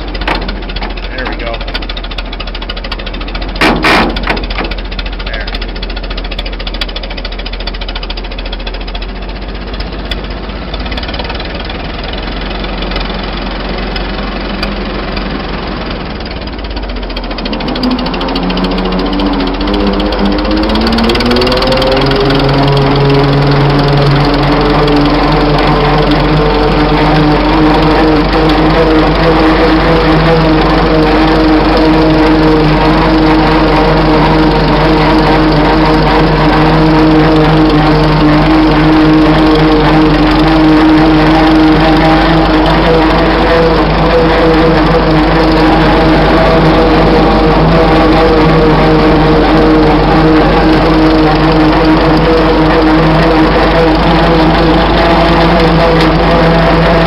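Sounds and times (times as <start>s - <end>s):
gear drivetrain whine: 0.0s - 57.0s
humming tone: 0.0s - 57.0s
tractor engine running: 0.0s - 57.0s.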